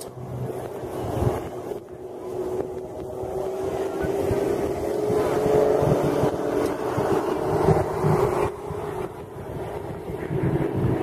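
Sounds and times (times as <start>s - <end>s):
plane engine droning overhead: 0.0s - 11.0s
wind rumbling on microphone: 0.0s - 11.0s.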